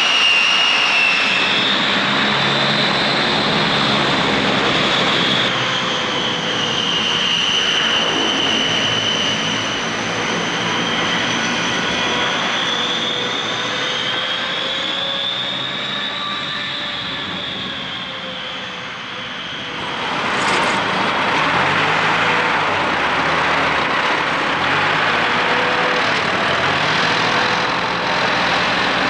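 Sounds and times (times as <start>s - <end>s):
turboprop engines whining: 0.0s - 29.0s.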